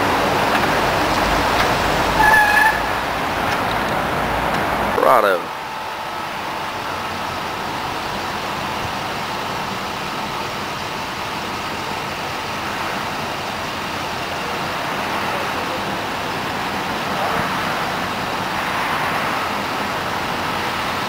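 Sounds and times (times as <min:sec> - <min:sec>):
pickup engine running steadily: 0:00.0 - 0:21.0.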